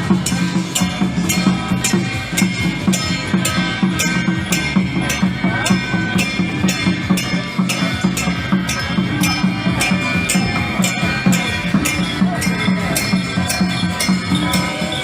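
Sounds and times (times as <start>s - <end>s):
drum beating: 0.0s - 15.0s
steady high ringing: 0.0s - 15.0s.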